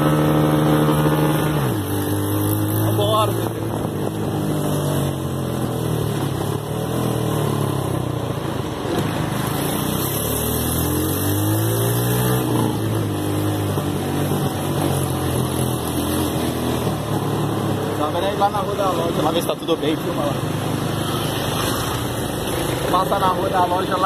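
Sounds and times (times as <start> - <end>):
buggy engine revving: 0.0 - 24.0.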